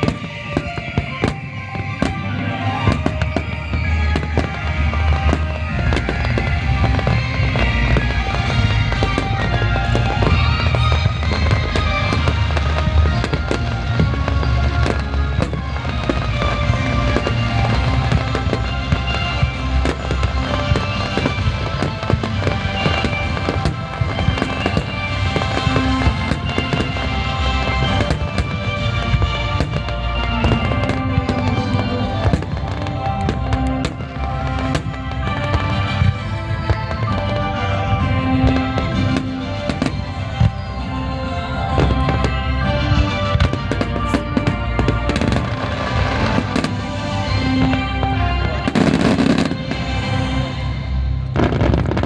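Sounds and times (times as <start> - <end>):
fireworks bangs and crackles: 0.0 - 52.0
music with held tones: 0.0 - 52.0.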